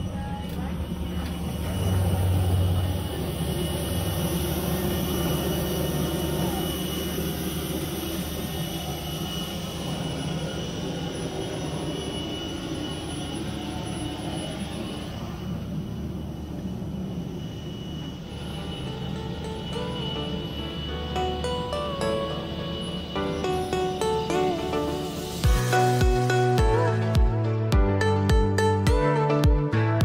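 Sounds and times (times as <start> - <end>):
jet turbine whine: 0.0 - 28.7.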